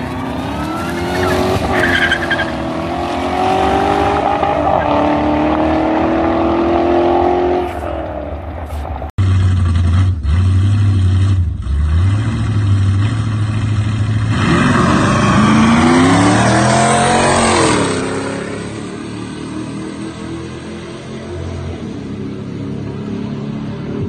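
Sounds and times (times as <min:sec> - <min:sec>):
engines shifting through gears: 0:00.0 - 0:24.0
truck engines rumbling and revving: 0:00.0 - 0:24.0.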